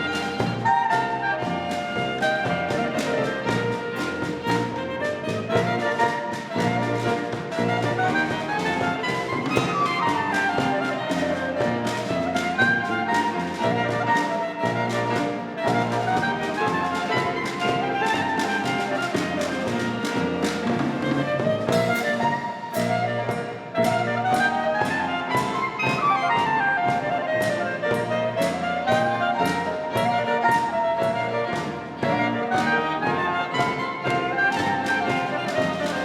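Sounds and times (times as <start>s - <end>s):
klezmer ensemble playing: 0.0s - 36.0s.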